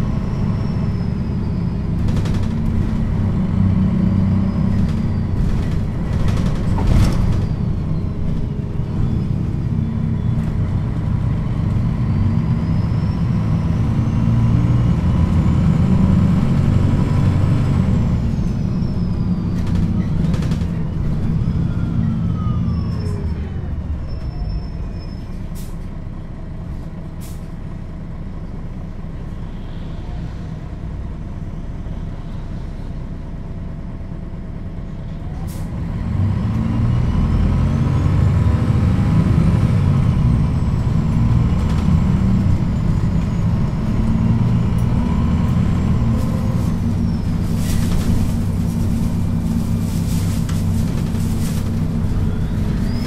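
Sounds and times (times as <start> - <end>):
bus diesel engine: 0.0 - 53.0.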